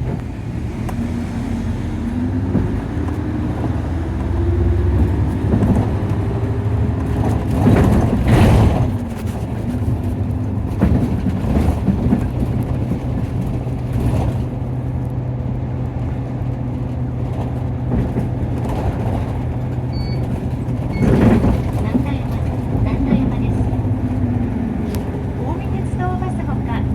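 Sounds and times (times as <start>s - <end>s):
bus diesel engine drone: 0.0s - 26.9s
rattling and road noise: 0.0s - 26.9s.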